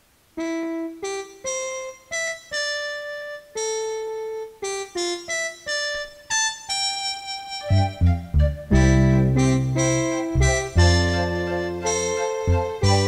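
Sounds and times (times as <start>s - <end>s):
slow keyboard melody: 0.4s - 13.0s.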